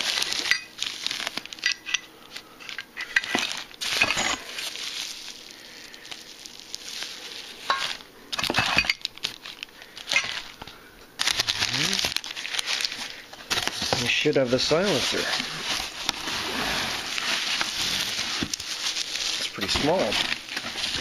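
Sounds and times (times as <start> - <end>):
packing paper crumpling: 0.0 - 21.0.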